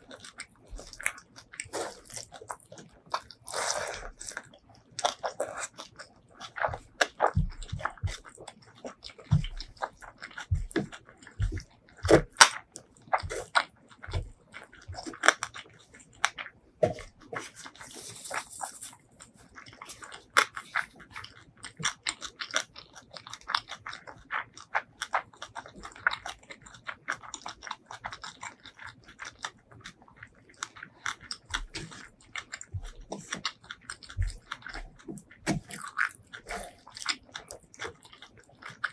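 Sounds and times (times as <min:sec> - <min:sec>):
crunchy bites: 0:00.0 - 0:38.9
wet chewing mouth sounds: 0:00.0 - 0:38.9.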